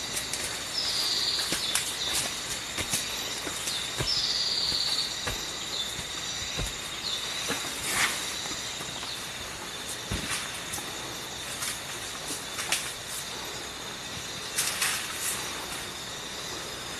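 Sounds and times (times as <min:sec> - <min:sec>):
insects trilling: 0:00.0 - 0:16.9.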